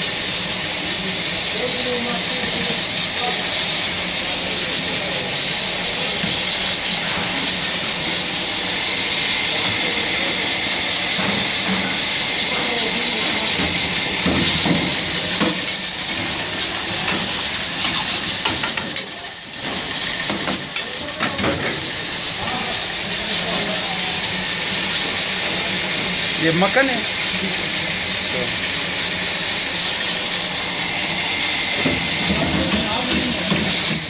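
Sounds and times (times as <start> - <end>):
food boiling hard in pans: 0.0 - 34.0.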